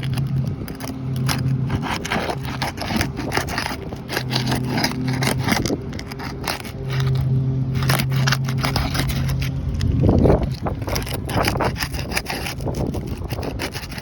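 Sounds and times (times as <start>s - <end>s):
low hum: 0.0s - 13.6s
roof shingles scraping and crackling: 0.0s - 14.0s.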